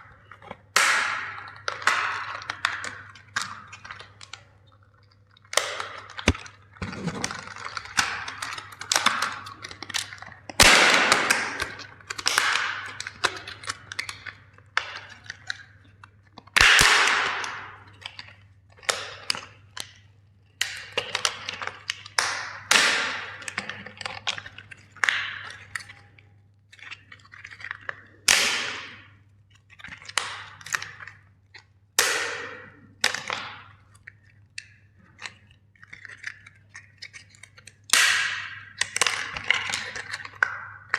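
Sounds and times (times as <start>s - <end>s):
plastic cracking and snapping: 0.0s - 40.9s.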